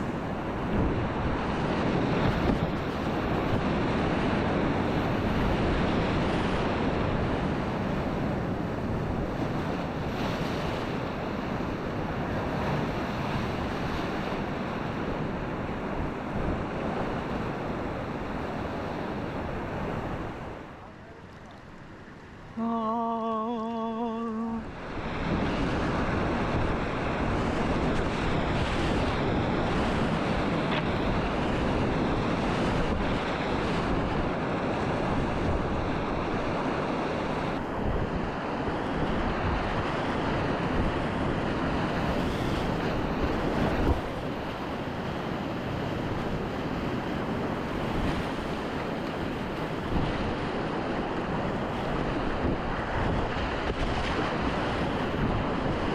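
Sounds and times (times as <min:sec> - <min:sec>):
wind buffeting microphone: 0:00.0 - 0:22.6, 0:23.6 - 0:55.9.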